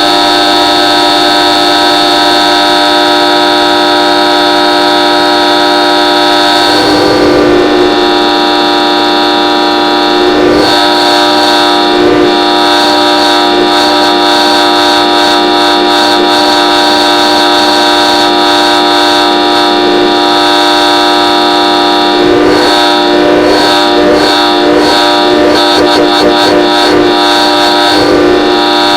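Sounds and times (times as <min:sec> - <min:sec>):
sustained horn chord blast: 0:00.0 - 0:28.9.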